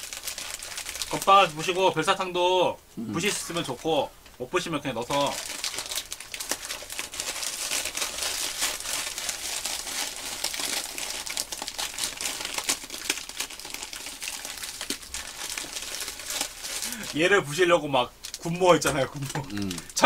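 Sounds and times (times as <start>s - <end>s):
plastic snack packet crinkling: 0.0s - 2.2s, 5.0s - 20.0s.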